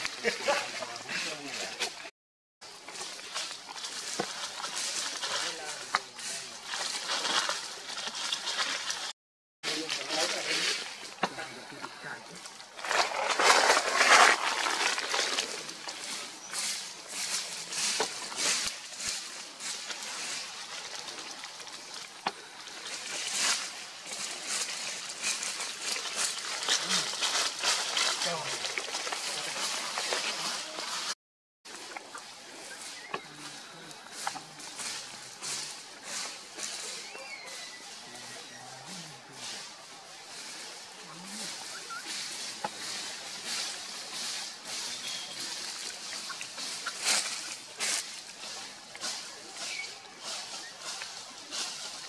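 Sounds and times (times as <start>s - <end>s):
rustling in dry leaf litter: 0.0s - 52.0s.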